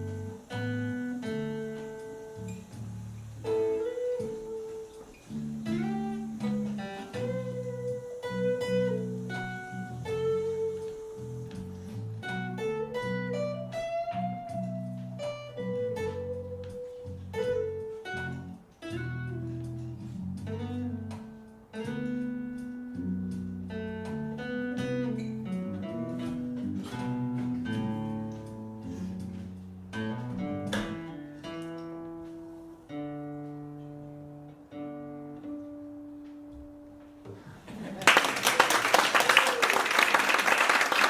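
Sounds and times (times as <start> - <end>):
acoustic guitar playing: 0.0 - 37.3.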